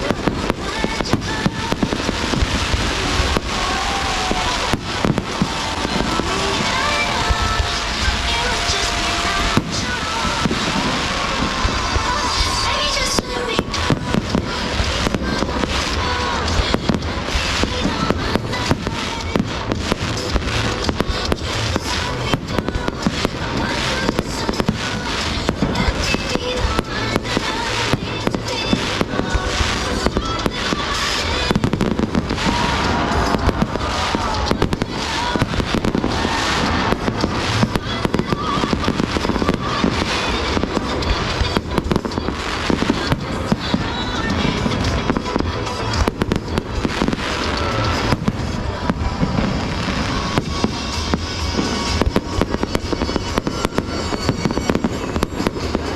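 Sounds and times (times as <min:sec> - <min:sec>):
fireworks bangs and crackles: 0:00.0 - 0:55.9
music: 0:00.0 - 0:55.9
voices: 0:00.0 - 0:55.9.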